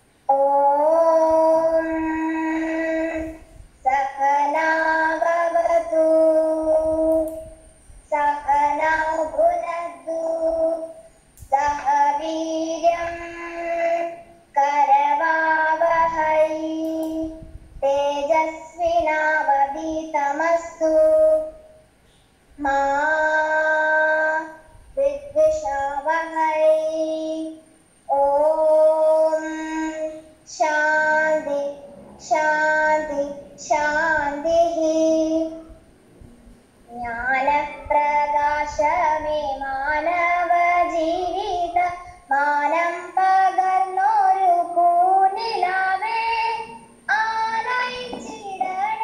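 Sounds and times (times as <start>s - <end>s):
girl singing: 0.0s - 35.9s, 36.8s - 49.0s.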